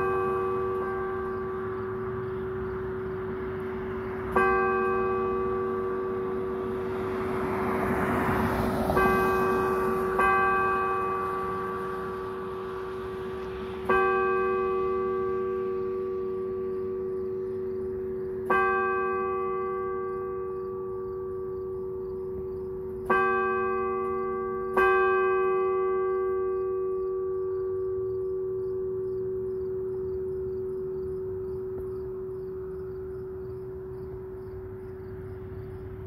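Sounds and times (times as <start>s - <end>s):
church bell tolling: 0.0s - 35.0s.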